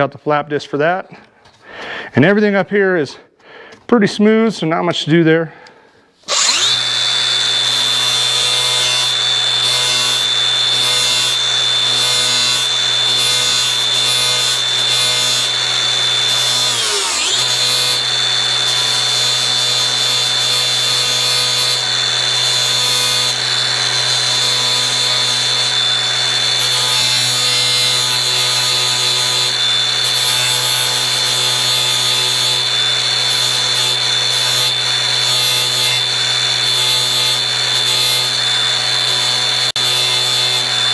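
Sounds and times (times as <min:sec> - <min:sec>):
angle grinder sanding plastic: 0:06.2 - 0:40.9.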